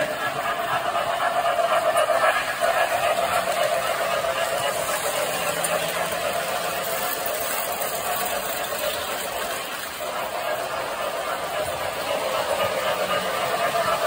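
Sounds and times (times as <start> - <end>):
toy trains rolling on metal track: 0.0 - 14.0.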